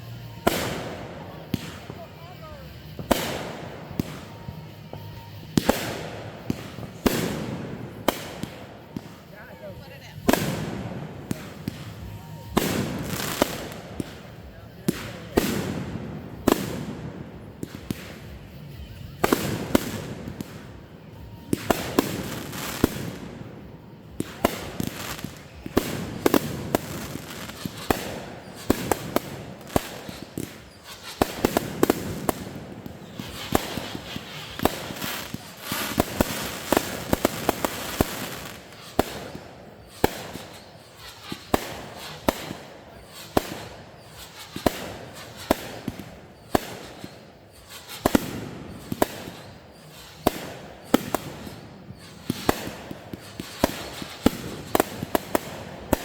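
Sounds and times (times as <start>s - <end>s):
fireworks bangs: 0.0s - 56.0s
fireworks crackling: 0.0s - 56.0s.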